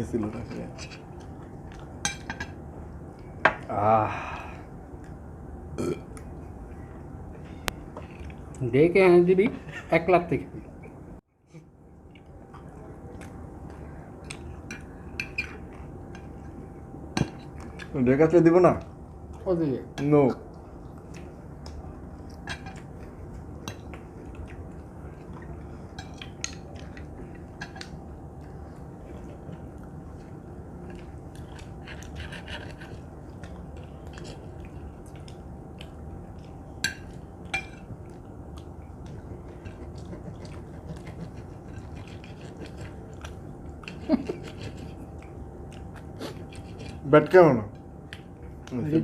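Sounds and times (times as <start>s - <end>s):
people chewing: 0.3s - 6.9s, 7.7s - 8.6s, 10.8s - 47.1s, 47.7s - 49.0s.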